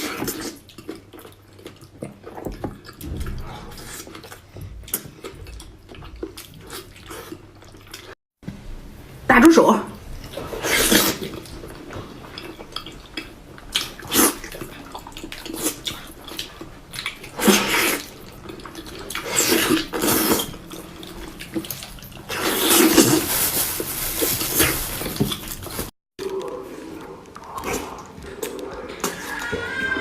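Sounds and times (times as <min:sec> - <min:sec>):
wet chewing and sucking: 0:00.0 - 0:08.2, 0:10.2 - 0:23.6, 0:24.2 - 0:30.0.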